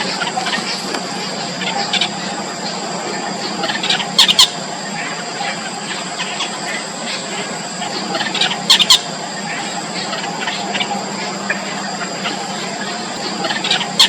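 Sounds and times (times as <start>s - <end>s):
nestling birds cheeping: 0.0s - 14.0s.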